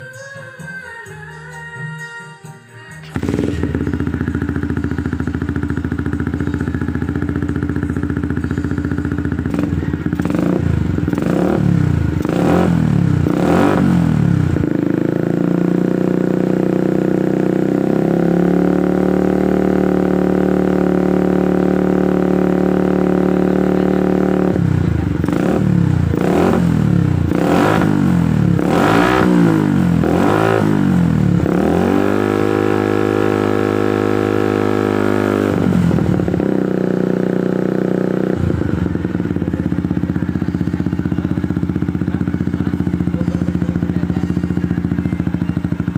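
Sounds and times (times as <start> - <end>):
motorcycle engine revving: 3.0 - 45.9.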